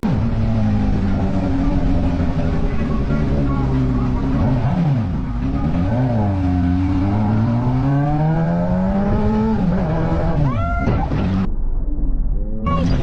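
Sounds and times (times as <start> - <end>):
motorcycle engine accelerating: 0.0 - 10.5.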